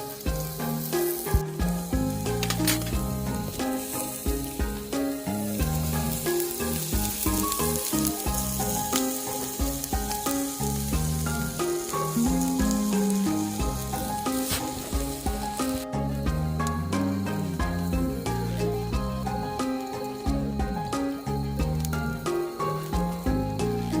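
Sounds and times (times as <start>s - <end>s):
background music with bass line: 0.0s - 24.0s
food sizzling as it fries: 0.0s - 24.0s.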